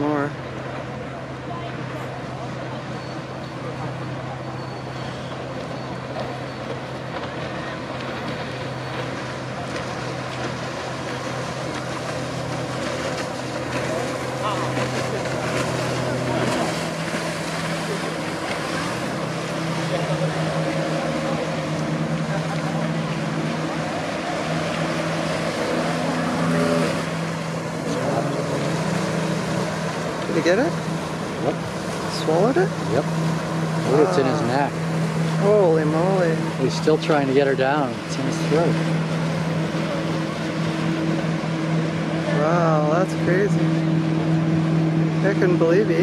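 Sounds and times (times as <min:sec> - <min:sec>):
boat engine humming: 0:00.0 - 0:46.0
outdoor noise rush: 0:00.0 - 0:46.0
motor droning: 0:02.6 - 0:46.0
wind and water hiss: 0:05.0 - 0:46.0.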